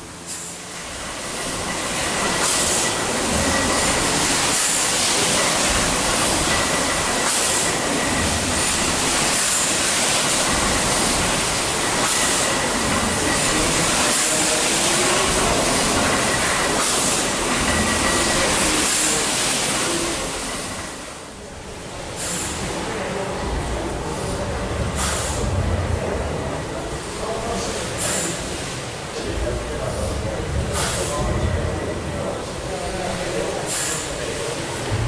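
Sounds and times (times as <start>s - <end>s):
steam hiss: 0.0s - 21.3s, 22.0s - 23.1s, 24.1s - 25.5s, 27.6s - 28.8s, 29.9s - 31.4s, 32.7s - 35.0s
steam engine rumble and clatter: 0.0s - 35.0s.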